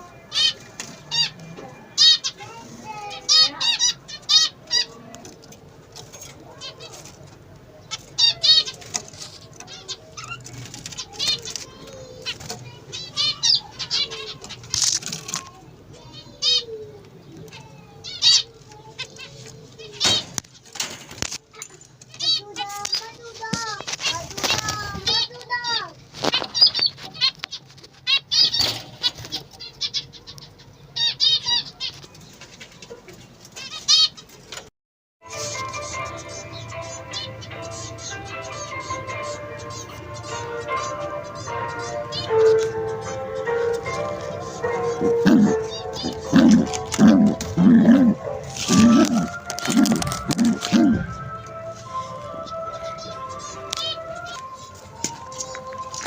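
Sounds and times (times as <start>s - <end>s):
cage birds chirping: 0.0s - 56.0s.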